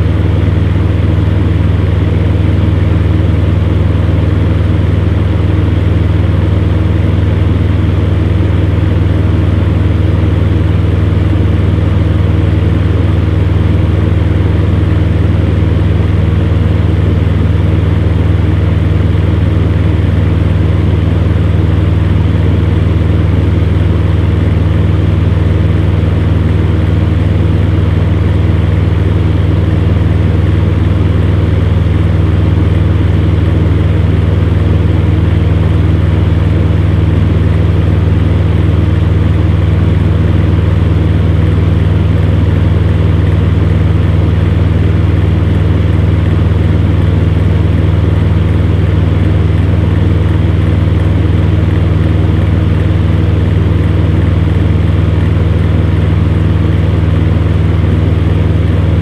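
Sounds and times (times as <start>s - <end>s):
fan heater motor hum: 0.0s - 59.0s.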